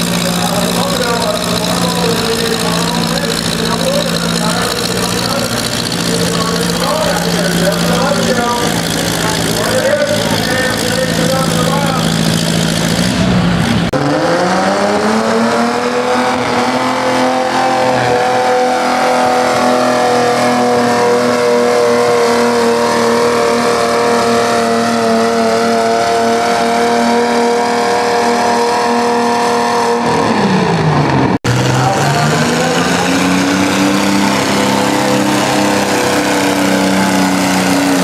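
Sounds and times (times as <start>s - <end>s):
tractor engine at full throttle: 0.0s - 38.0s.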